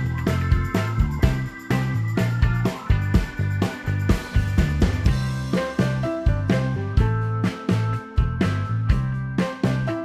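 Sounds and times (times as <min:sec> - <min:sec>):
upbeat music with steady beat: 0:00.0 - 0:10.0.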